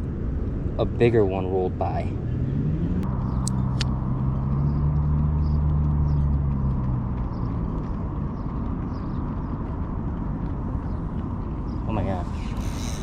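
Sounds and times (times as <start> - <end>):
low engine hum: 0.0 - 13.0
outdoor background noise: 0.0 - 13.0.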